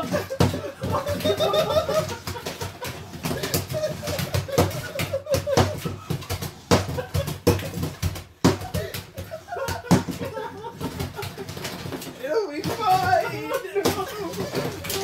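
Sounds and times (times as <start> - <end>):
knocks and clattering impacts: 0.0 - 15.0
people laughing hysterically: 0.0 - 15.0.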